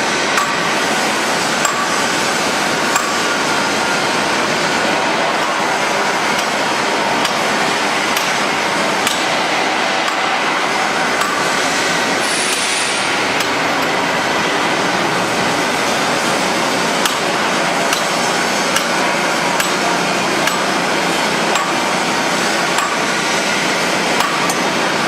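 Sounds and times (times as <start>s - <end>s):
factory machinery running: 0.0s - 25.0s.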